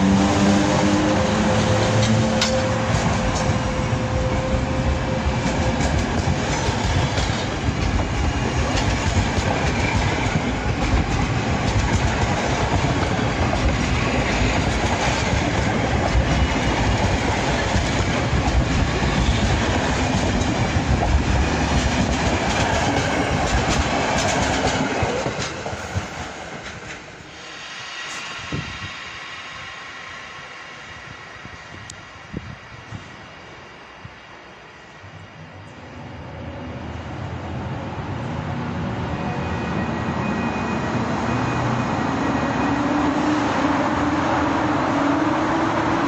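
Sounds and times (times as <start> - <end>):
train coaches rumbling past: 0.0 - 46.0.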